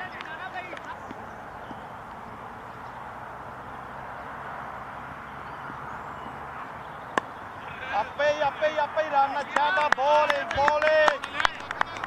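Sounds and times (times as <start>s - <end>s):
steady outdoor rushing noise: 0.0s - 12.0s.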